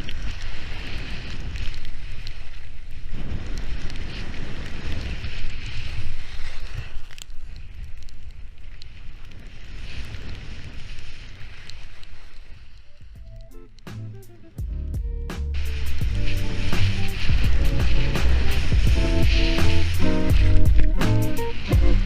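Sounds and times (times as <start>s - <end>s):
skis carving on snow: 0.0s - 13.1s, 15.6s - 22.0s
wind buffeting camera microphone: 0.0s - 14.8s, 15.5s - 22.0s.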